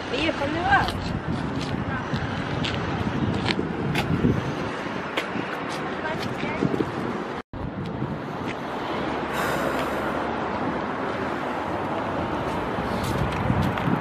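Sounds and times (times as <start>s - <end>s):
street traffic rushing: 0.0s - 14.0s
wind on microphone: 0.0s - 14.0s.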